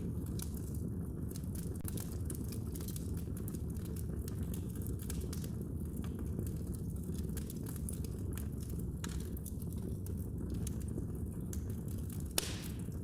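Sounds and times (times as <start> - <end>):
fire crackling with pops: 0.0 - 13.0
low rumble of fire: 0.0 - 13.0.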